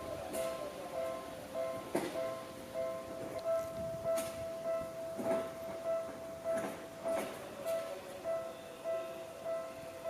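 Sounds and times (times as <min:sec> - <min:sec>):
level-crossing warning bell: 0:00.0 - 0:10.0
train passing: 0:00.0 - 0:10.0.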